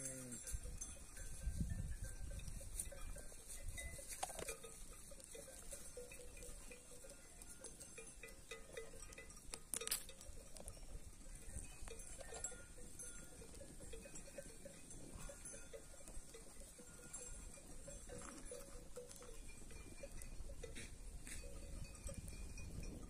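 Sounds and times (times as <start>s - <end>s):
sheep bells clinking: 0.0s - 23.0s.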